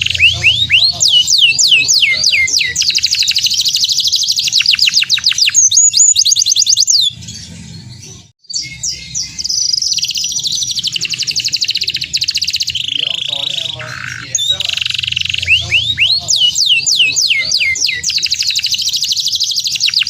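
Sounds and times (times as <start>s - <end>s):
canary singing fast trills: 0.0s - 20.0s.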